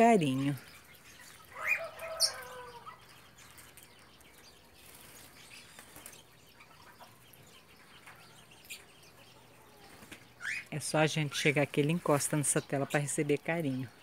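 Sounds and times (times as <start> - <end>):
caged birds chirping: 0.0 - 14.0
low outdoor background noise: 0.0 - 14.0.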